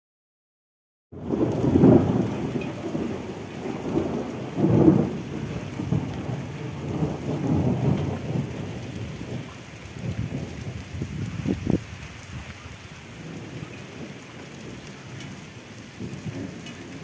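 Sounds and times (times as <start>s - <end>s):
rain falling on street: 1.2s - 17.0s.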